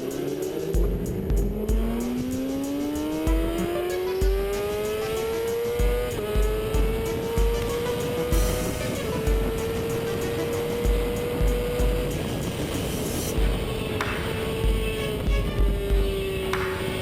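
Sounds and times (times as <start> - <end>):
music with heavy bass beat: 0.0 - 17.0
vehicle engine accelerating: 0.0 - 17.0.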